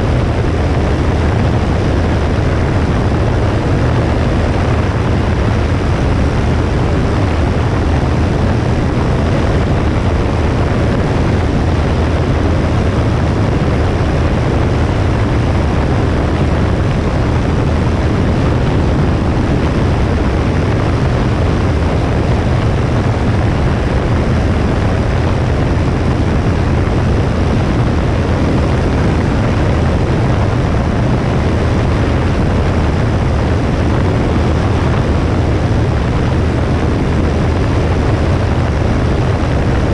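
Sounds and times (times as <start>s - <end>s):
propeller plane engine droning: 0.0s - 39.9s
wind rush: 0.0s - 39.9s.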